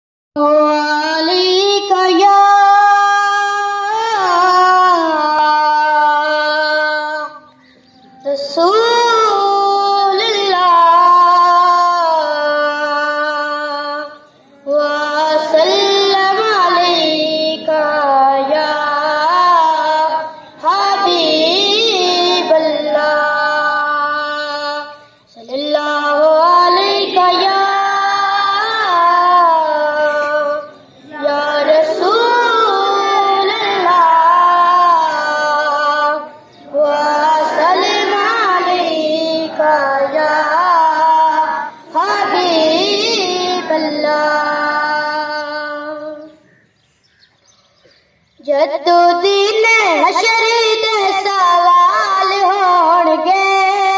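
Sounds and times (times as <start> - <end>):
boy singing through loudspeakers: 0.4 - 46.4, 48.4 - 53.9.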